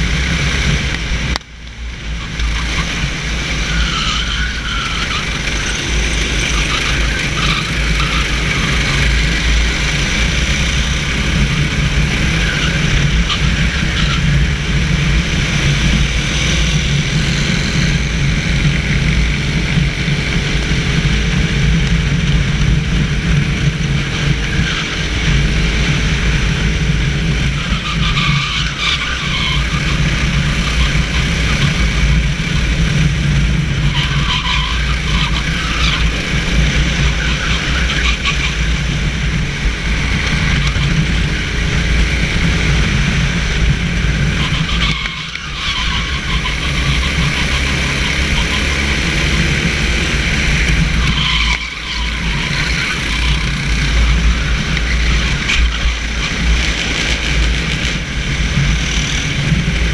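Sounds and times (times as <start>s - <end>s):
kart engine running: 0.0s - 59.9s.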